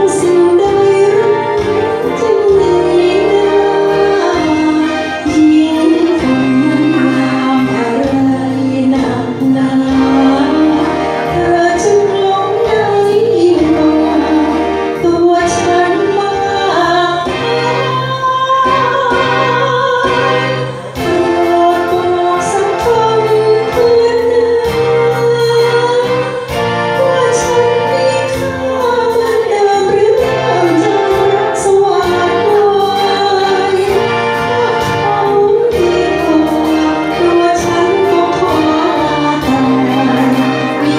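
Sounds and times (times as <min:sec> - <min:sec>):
backing music with steady beat: 0:00.0 - 0:40.9
woman singing through loudspeaker: 0:00.0 - 0:40.9.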